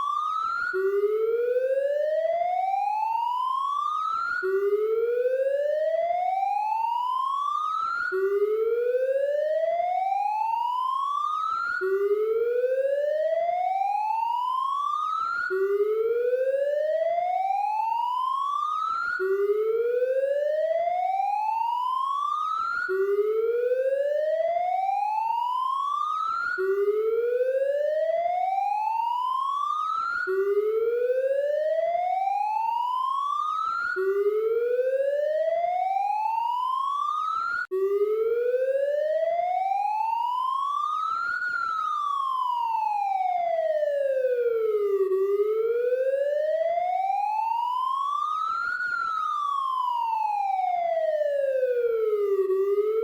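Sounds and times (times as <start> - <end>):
police siren: 0.0 - 53.0.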